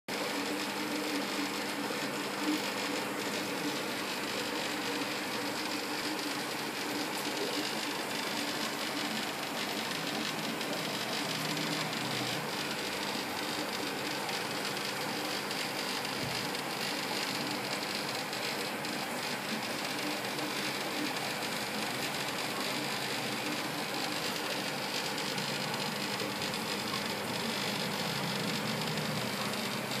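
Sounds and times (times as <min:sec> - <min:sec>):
air pump buzzing: 0:00.1 - 0:30.0
electric hum: 0:00.1 - 0:30.0.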